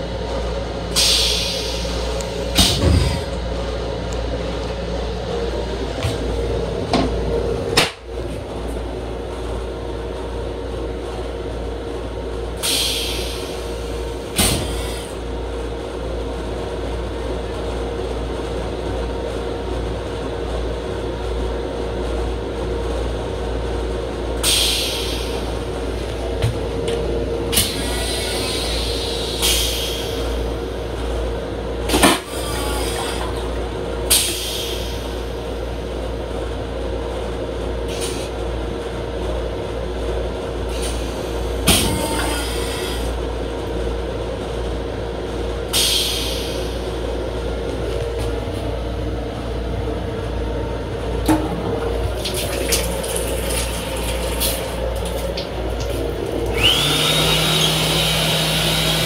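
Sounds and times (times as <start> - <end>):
electric railcar rumble and hum: 0.0 - 59.0.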